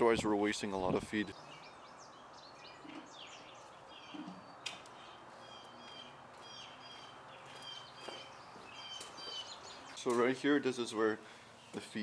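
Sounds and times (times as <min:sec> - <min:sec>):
faint outdoor hiss: 0:00.0 - 0:12.0
small birds chirping: 0:00.0 - 0:12.0.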